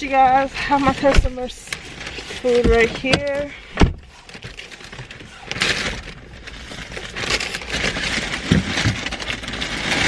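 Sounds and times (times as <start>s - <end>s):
rustling and handling noise: 0.0s - 10.0s.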